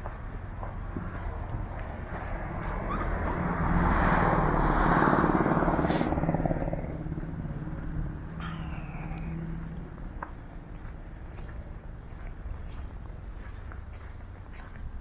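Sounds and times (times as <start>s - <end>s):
vehicle driving past: 0.4s - 14.5s.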